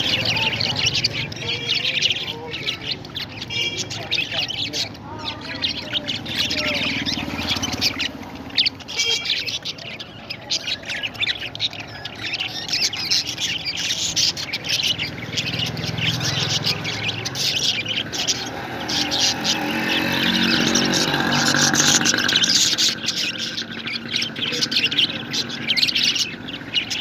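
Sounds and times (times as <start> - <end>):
parrots chirping and calling: 0.0 - 27.0.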